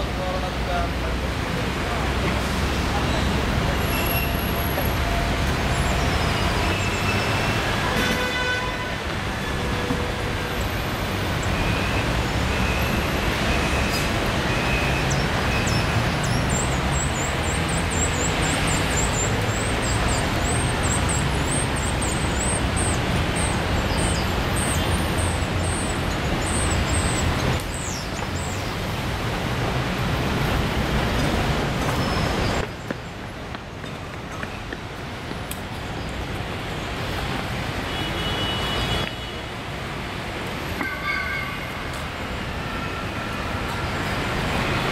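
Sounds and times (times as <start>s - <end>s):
city street traffic: 0.0s - 44.9s.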